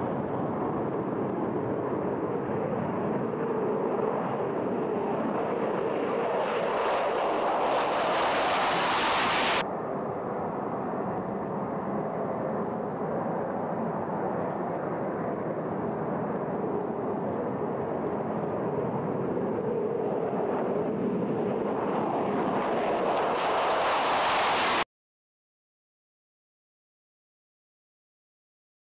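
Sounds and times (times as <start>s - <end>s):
jet engine roar: 0.0s - 24.8s.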